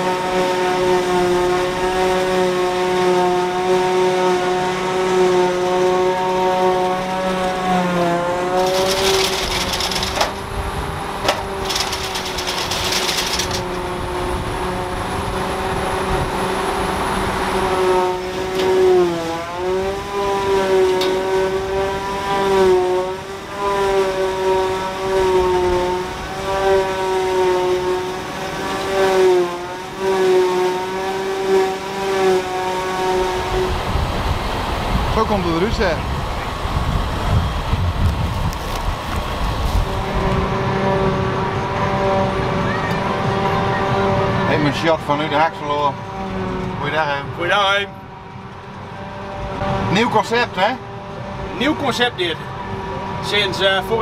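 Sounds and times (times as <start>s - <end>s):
machinery high whine: 0.0s - 54.0s.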